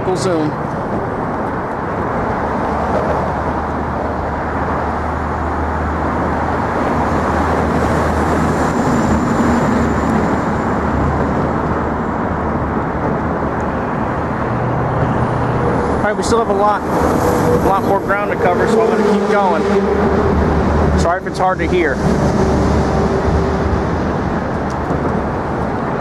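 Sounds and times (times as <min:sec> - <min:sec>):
traffic roar on a bridge: 0:00.0 - 0:26.0.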